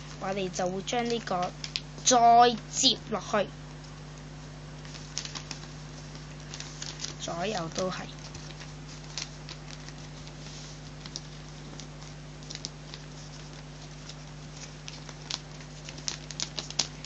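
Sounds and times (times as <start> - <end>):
paper rustling and crinkling: 0.0 - 2.6, 4.8 - 17.0
steady low hum: 0.0 - 17.0.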